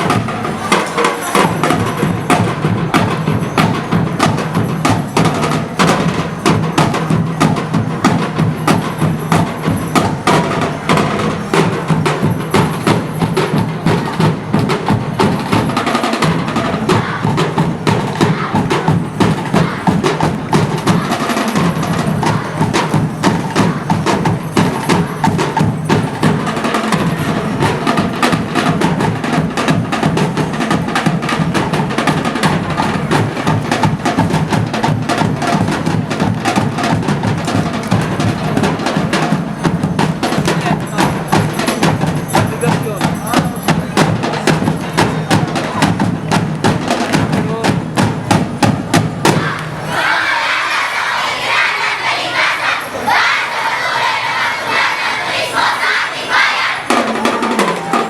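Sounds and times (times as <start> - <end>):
drums: 0.0 - 58.0.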